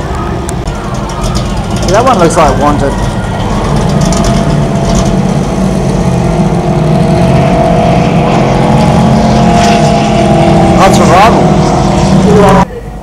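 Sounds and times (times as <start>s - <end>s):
boat engine running hard: 0.0s - 13.0s.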